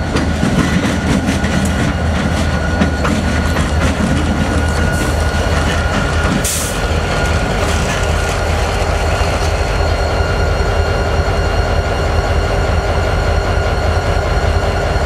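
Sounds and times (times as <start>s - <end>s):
locomotive diesel drone: 0.0s - 15.0s.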